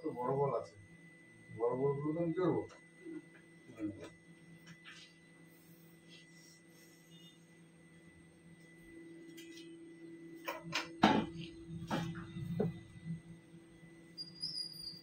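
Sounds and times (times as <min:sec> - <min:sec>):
electrical hum with whine: 0:00.0 - 0:15.0.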